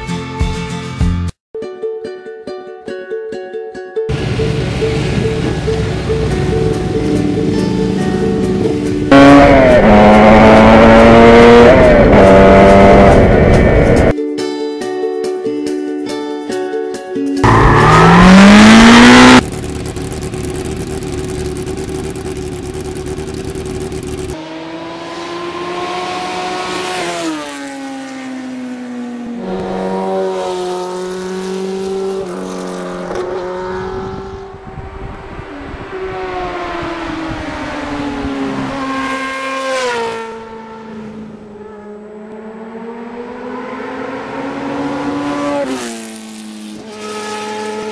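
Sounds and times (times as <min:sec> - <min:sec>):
motorcycle engine revving: 0:04.1 - 0:14.1, 0:17.4 - 0:47.9.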